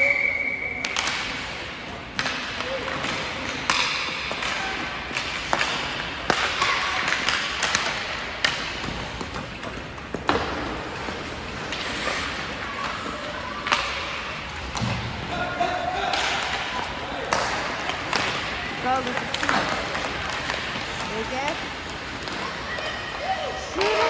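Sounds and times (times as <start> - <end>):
hockey sticks and puck clacking: 0.0 - 24.0
skates scraping ice: 0.7 - 24.0.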